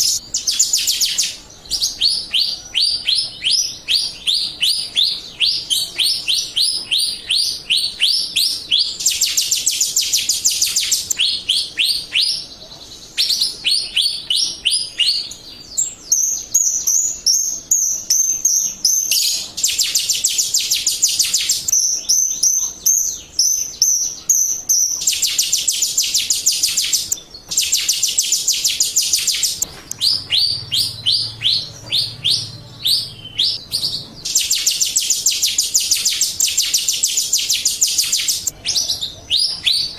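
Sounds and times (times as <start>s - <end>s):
starling chirps and trills: 0.0s - 39.9s.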